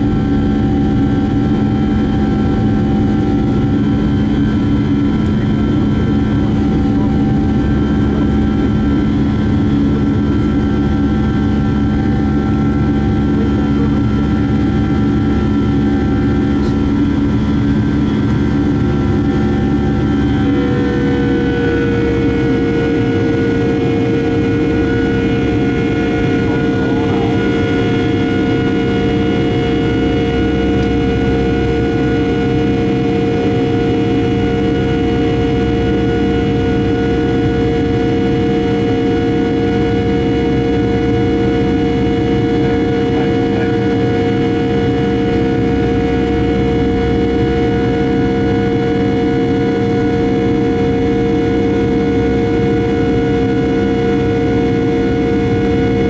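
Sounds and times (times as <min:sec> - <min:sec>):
high engine whine: 0:00.0 - 0:56.0
jet engines droning in cabin: 0:00.0 - 0:56.0.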